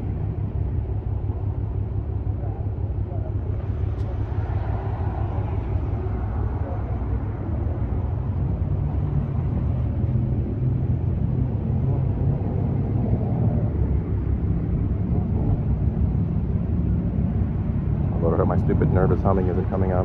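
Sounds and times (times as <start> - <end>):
gusting wind: 0.0 - 20.0
idling vehicle engines: 0.0 - 20.0
street traffic: 0.0 - 20.0.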